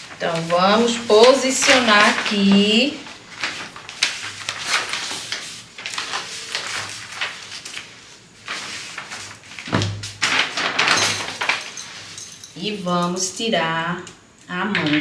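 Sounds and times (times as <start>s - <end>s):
paper sheets rustling on table: 0.0s - 13.1s.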